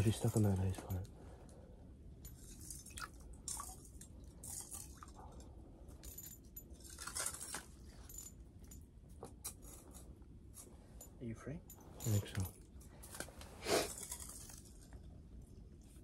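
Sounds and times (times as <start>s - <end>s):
light clicks and clinks: 0.0s - 1.6s, 2.2s - 16.0s.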